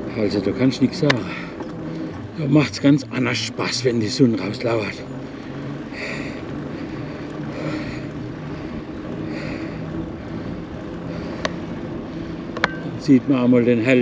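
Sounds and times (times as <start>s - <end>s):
e-bike motor hum: 0.0s - 14.0s
wind buffeting microphone: 0.0s - 14.0s.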